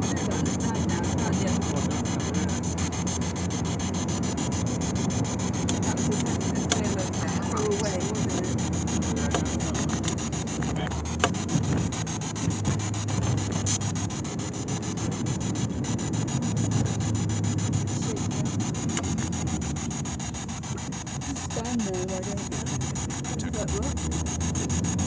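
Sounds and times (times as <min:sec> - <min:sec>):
camera rubbing against microphone: 0:00.0 - 0:25.0
car cabin road and engine rumble: 0:00.0 - 0:25.0
sharp clicks: 0:00.0 - 0:25.0.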